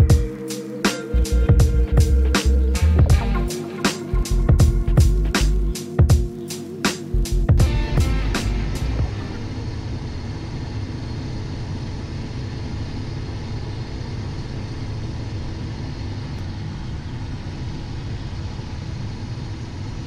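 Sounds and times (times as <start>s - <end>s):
jet cockpit airflow and engine noise: 0.0s - 20.0s.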